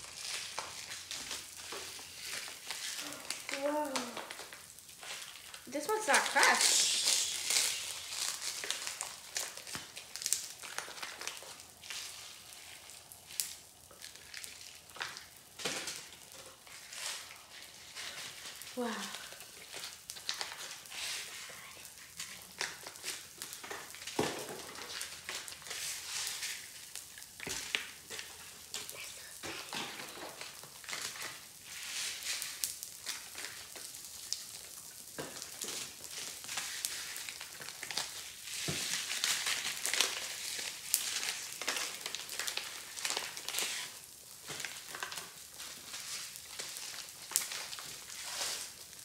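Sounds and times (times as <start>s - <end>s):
candy packets rustling: 0.0s - 49.0s
popping candy crackling: 0.0s - 49.0s.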